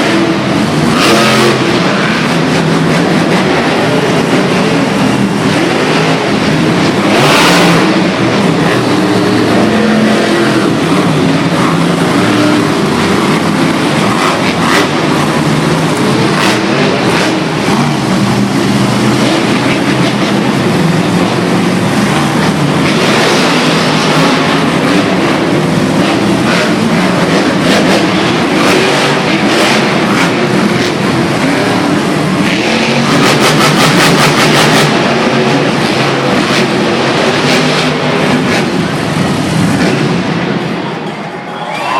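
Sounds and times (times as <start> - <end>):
truck engines revving: 0.0 - 41.9.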